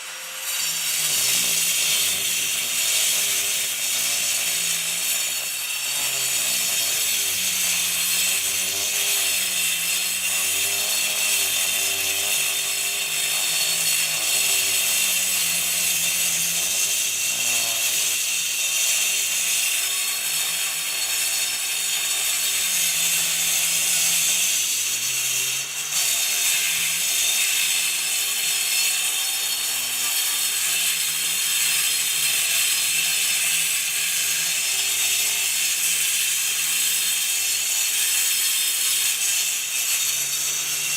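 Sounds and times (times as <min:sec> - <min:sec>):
angle grinder cutting concrete: 0:00.0 - 0:40.9.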